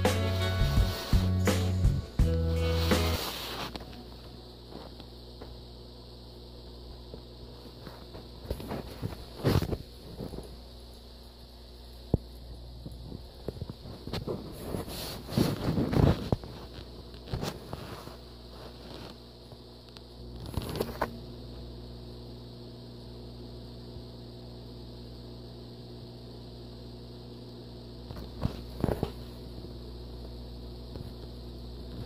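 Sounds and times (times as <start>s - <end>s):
aquarium equipment hum: 0.0s - 32.0s.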